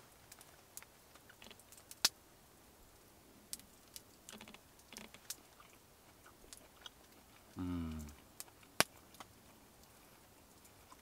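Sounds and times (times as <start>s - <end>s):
wood fire crackling and popping: 0.0s - 2.2s, 2.8s - 11.0s.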